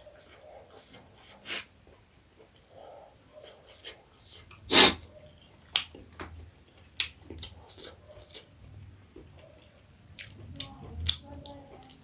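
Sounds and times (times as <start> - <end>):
close-miked chewing: 0.0 - 12.0.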